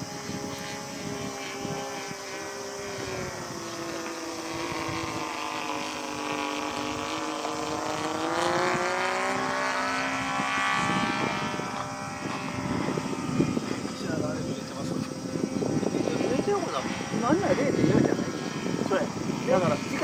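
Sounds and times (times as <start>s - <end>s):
model airplane motor droning: 0.0s - 20.0s
wind rumble on microphone: 0.0s - 20.0s.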